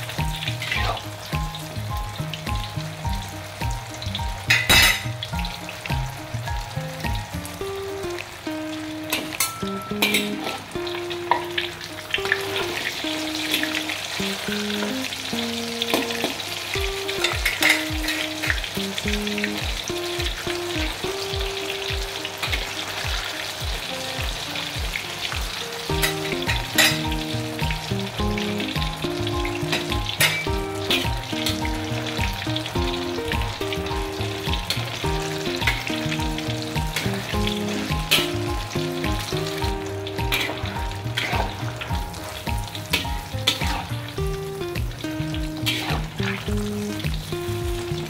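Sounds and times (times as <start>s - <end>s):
background music with beat: 0.0s - 48.0s
batter sizzling in hot oil: 0.0s - 48.0s.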